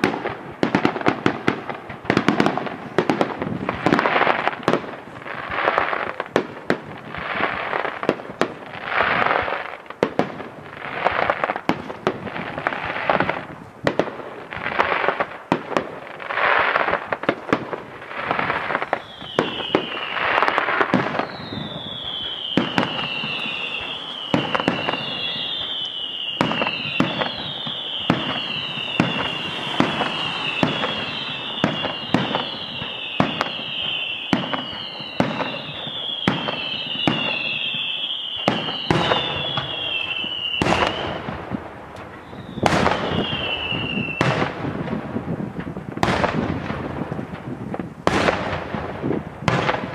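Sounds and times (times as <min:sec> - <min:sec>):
falling firework whistles: 0:00.0 - 0:49.9
firework bangs with crackling: 0:00.0 - 0:49.9.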